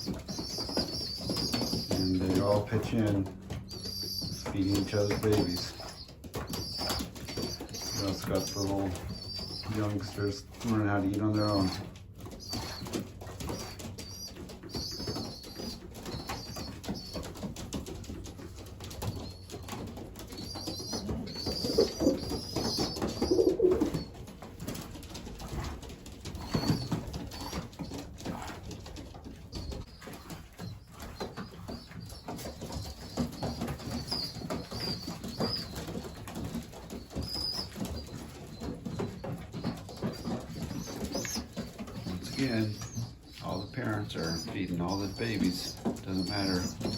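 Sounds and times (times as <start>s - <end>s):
squabs squeaking: 0.0s - 24.8s, 25.4s - 46.9s
pigeons cooing: 0.0s - 46.9s
wings flapping: 0.0s - 46.9s.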